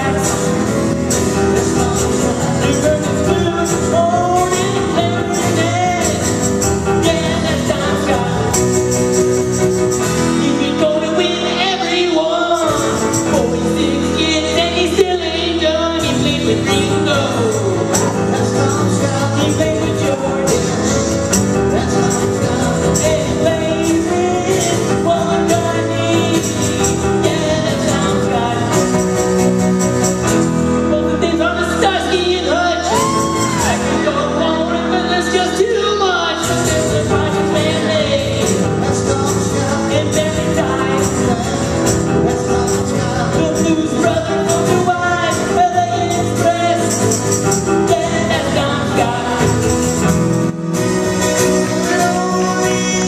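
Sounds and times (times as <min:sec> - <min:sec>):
man singing: 0:00.0 - 0:53.0.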